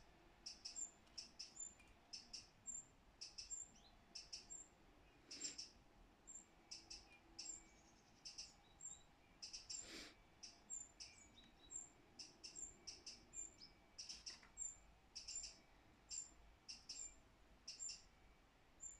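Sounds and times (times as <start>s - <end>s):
small bird chirping: 0.0s - 18.9s.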